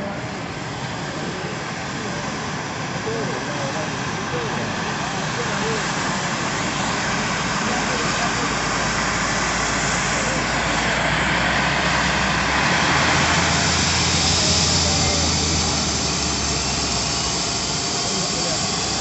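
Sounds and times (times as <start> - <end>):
helicopter turbine engines whining: 0.0 - 19.0.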